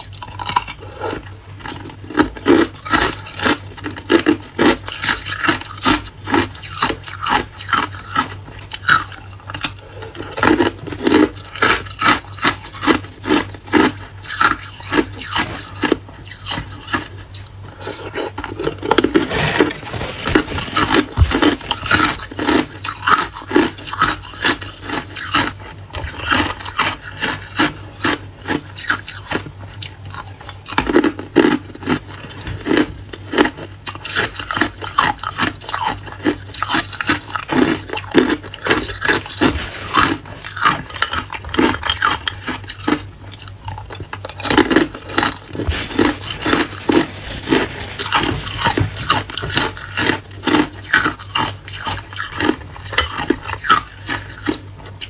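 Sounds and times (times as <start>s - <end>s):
ice cubes being chewed: 0.0s - 55.0s.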